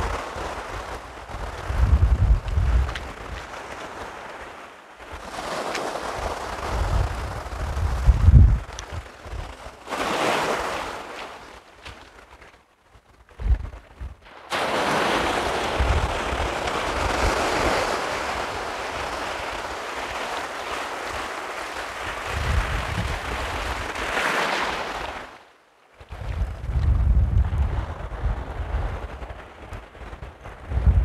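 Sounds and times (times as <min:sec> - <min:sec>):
wind buffeting microphone: 0:00.0 - 0:04.4, 0:05.1 - 0:24.6, 0:26.0 - 0:31.0
small waves washing on shingle: 0:00.0 - 0:30.7.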